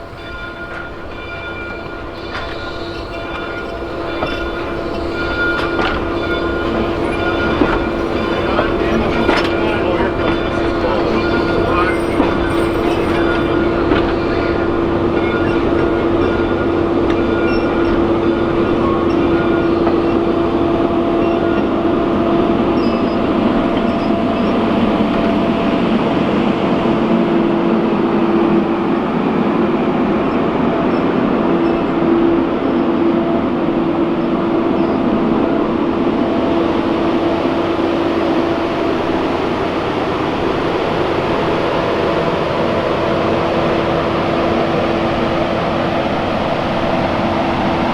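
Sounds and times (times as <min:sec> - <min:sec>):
steam train rolling on track: 0:00.0 - 0:47.9.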